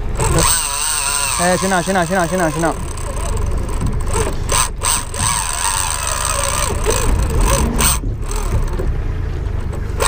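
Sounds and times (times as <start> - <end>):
boat engine running: 0.0 - 10.0
fishing reel ticking and whirring: 0.2 - 8.8.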